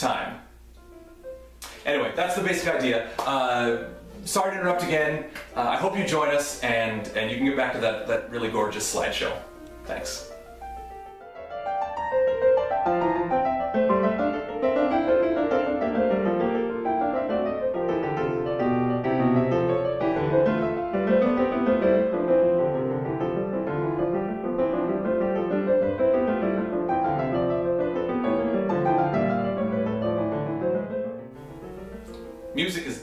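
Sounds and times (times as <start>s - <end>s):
classical piano music: 0.7s - 33.0s.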